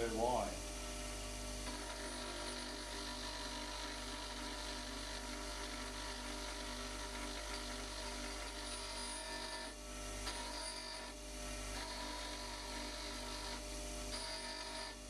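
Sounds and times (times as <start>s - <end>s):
bench grinder motor hum: 1.1s - 15.0s.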